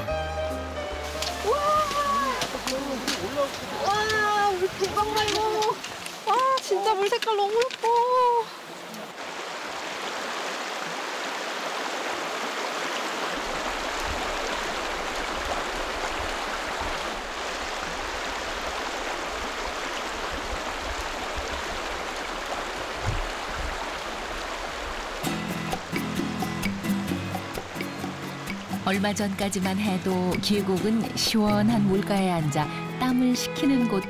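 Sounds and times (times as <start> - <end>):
stream rushing over rocks: 0.9 - 30.3.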